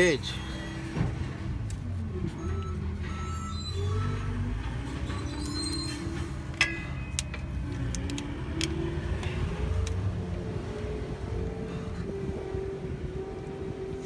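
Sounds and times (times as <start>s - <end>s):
low vehicle rumble with rising hum: 0.0s - 14.0s.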